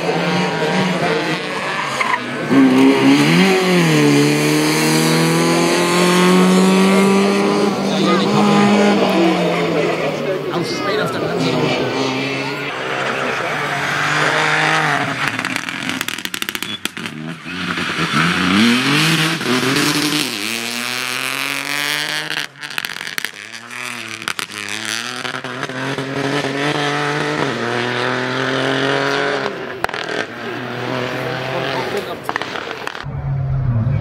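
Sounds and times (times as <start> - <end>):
rally car engine revving: 0.0 - 34.0.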